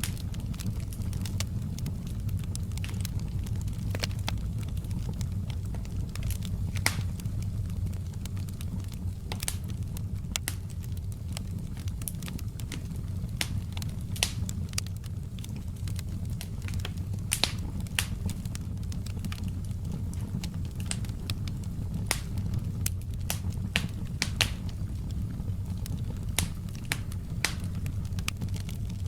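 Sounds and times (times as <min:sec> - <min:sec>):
fire crackling and popping: 0:00.0 - 0:29.0
wood fire burning: 0:00.0 - 0:29.0.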